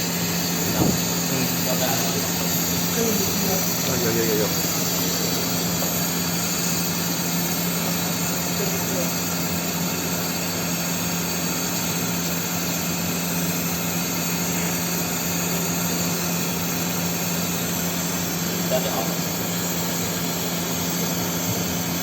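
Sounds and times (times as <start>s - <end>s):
machine humming with hiss: 0.0s - 22.0s.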